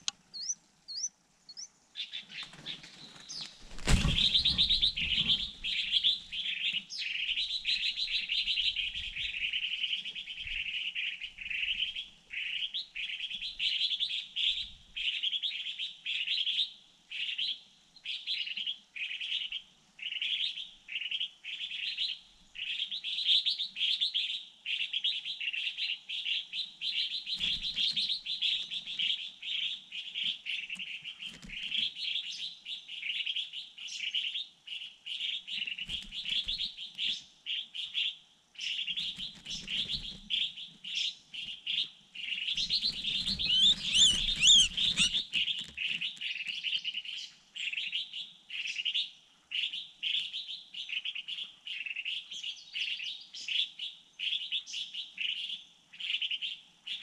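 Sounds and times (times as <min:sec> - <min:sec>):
songbird alarm chirps: 0:00.0 - 0:57.0.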